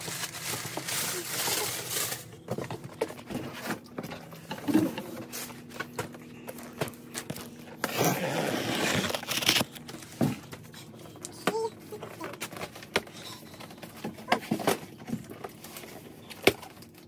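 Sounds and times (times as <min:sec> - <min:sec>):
cardboard and paper rustling: 0:00.0 - 0:17.0.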